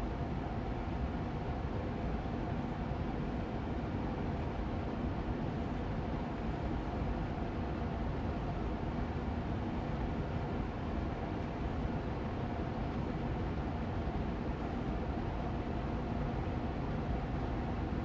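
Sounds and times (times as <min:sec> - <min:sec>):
air purifier fan running: 0:00.0 - 0:18.0.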